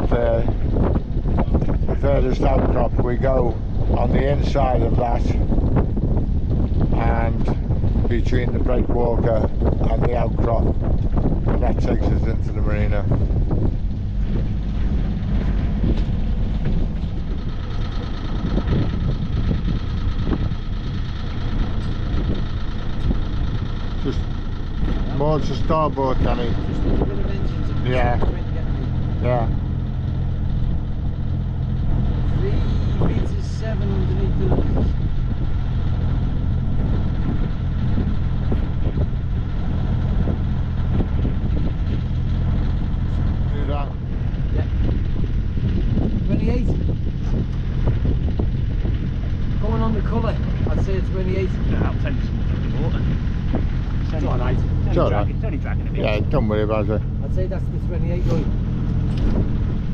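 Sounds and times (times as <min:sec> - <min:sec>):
boat engine rumbling: 0:00.0 - 0:59.9
thin steady whine: 0:00.0 - 0:59.9.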